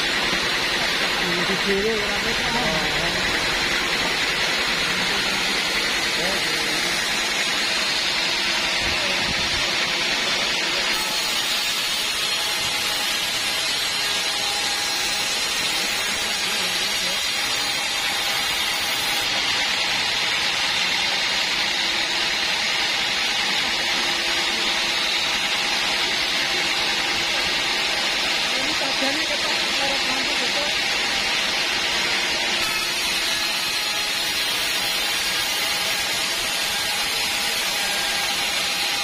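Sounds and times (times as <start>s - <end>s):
band saw running: 0.0s - 39.0s.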